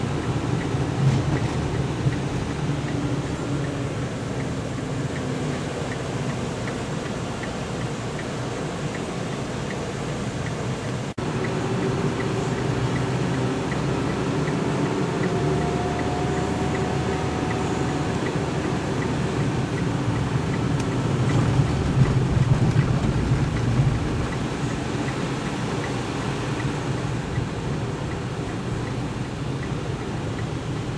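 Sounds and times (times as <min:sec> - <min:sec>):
car road and engine noise: 0:00.0 - 0:30.9
faint ticking: 0:00.0 - 0:30.9.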